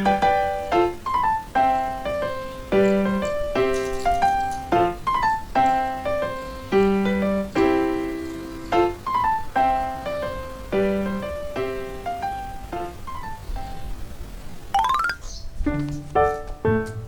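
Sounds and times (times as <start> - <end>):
piano music: 0.0 - 13.4, 14.8 - 17.0.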